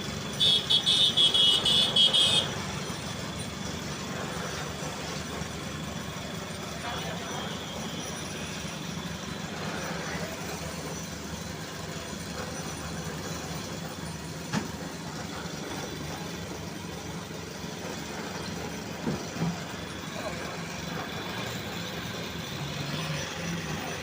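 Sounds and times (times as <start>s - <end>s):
machinery engine running: 0.0s - 24.0s.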